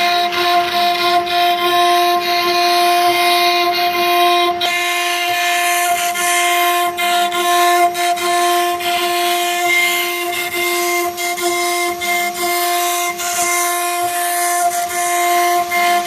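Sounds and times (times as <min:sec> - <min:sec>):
router spindle whine: 0:00.0 - 0:16.0.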